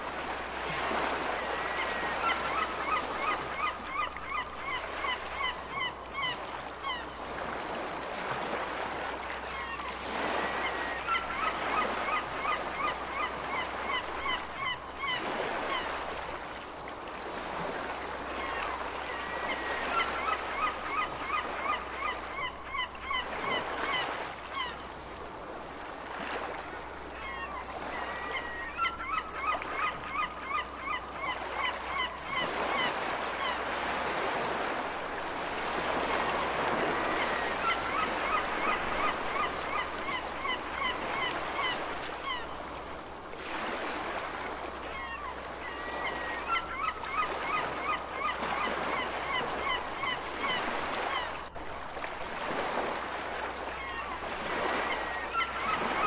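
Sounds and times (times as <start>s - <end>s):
ocean waves: 0.0s - 56.0s
gulls calling: 0.9s - 7.2s, 9.5s - 16.0s, 17.9s - 24.8s, 27.1s - 34.9s, 35.5s - 42.8s, 43.6s - 51.5s, 53.6s - 56.0s.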